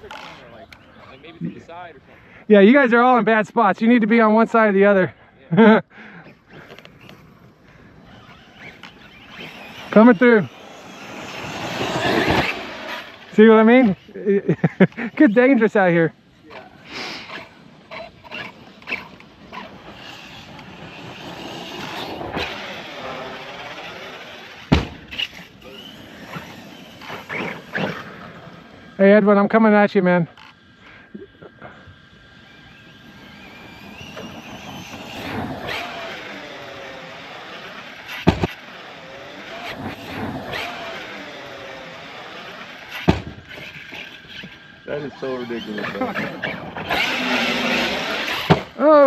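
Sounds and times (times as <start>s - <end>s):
rc car motor whine: 0.0s - 49.0s.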